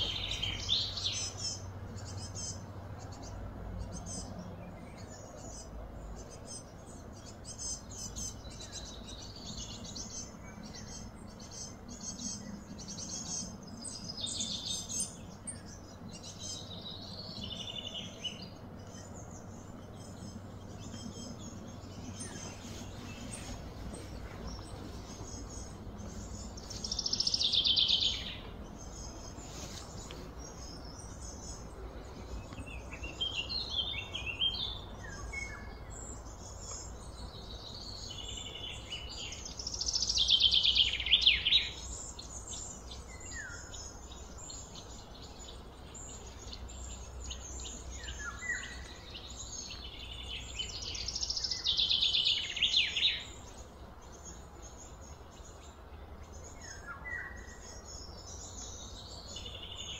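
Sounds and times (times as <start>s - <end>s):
outdoor background: 0.0s - 59.9s.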